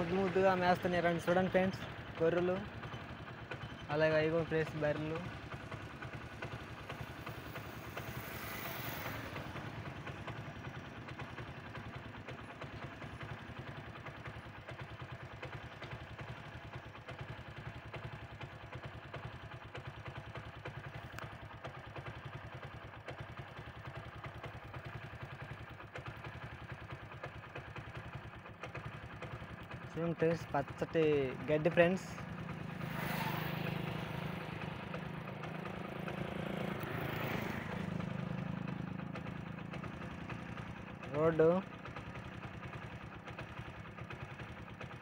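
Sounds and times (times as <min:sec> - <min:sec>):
engine running with pulsing hum: 0:00.0 - 0:45.0.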